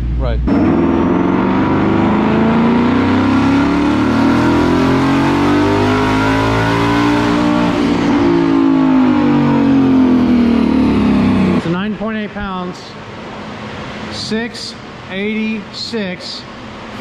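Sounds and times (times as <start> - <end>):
car engine revving at full throttle: 0.0 - 14.1.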